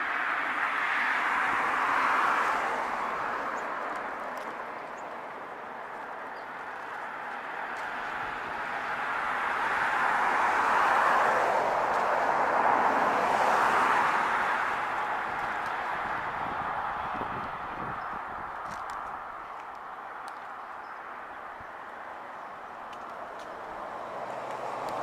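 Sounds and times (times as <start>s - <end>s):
distant vehicle noise: 0.0s - 25.0s.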